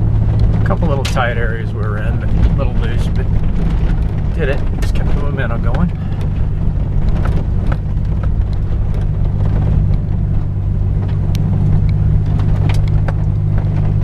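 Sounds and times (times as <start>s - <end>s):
car engine drone from inside: 0.0s - 14.0s.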